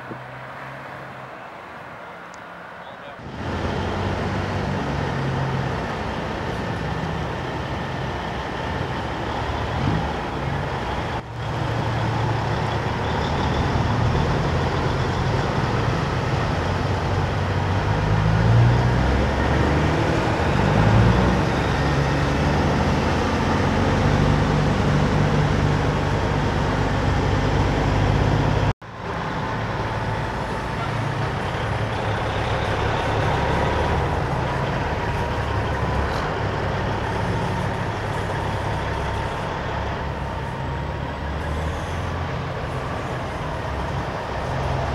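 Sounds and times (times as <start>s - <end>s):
diesel trucks driving past: 0.0s - 44.9s.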